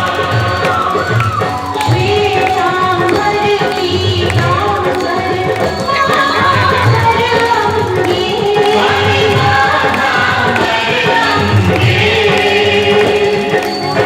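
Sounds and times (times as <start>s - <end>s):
loud song with drum beat: 0.0s - 14.0s.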